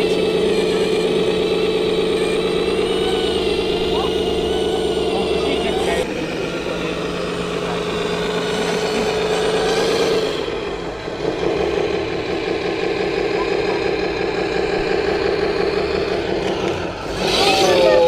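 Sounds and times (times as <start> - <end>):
rc truck motor running: 0.0 - 18.0.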